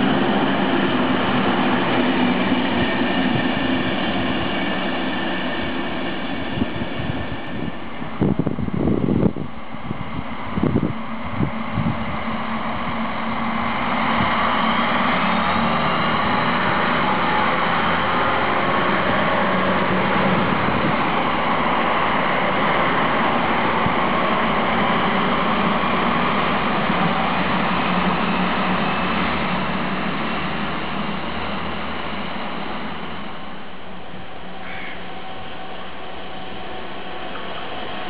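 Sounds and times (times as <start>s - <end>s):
diesel engines running: 0.0s - 38.0s
wheels rumbling on rail: 0.0s - 38.0s.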